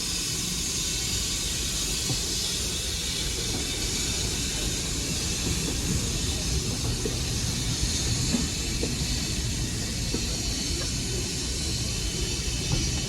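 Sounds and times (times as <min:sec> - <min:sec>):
steam hiss: 0:00.0 - 0:13.0
train rumbling: 0:00.0 - 0:13.0.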